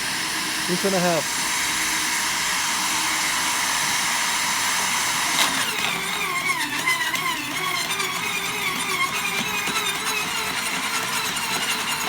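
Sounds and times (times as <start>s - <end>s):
wood chipper motor whining: 0.0s - 12.0s.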